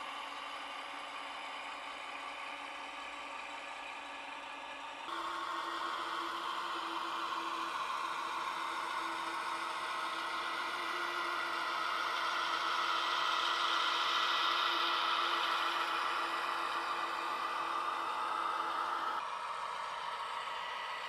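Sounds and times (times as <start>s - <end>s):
diesel engine sound through small speaker: 0.0s - 21.0s.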